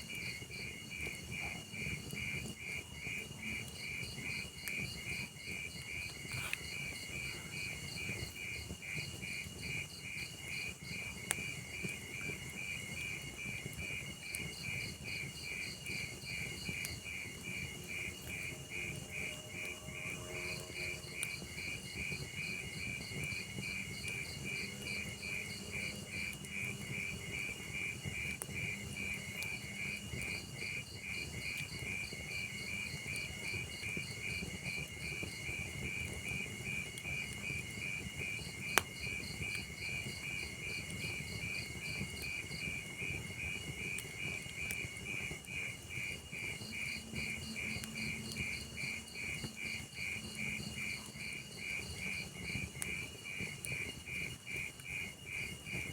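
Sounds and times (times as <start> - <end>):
fire popping: 0.0 - 19.8, 21.1 - 55.9
log fire crackling: 0.0 - 55.9
crickets chirping: 0.1 - 55.9.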